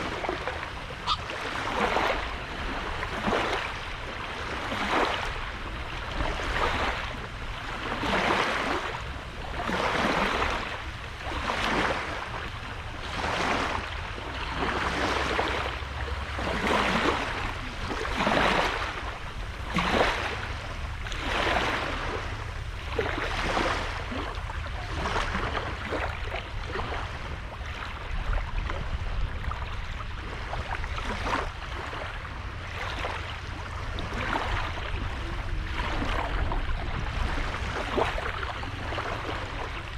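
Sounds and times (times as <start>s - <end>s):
waves breaking on sand: 0.0s - 39.9s.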